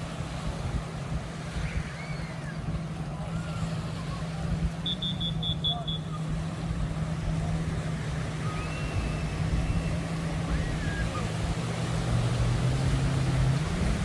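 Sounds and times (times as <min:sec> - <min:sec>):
low engine drone: 0:00.0 - 0:14.0
faint voices: 0:00.9 - 0:12.2.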